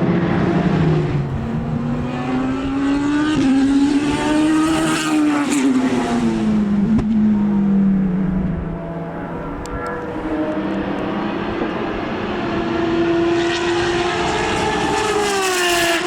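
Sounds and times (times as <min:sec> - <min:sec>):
racing car passing by: 0:00.0 - 0:16.0.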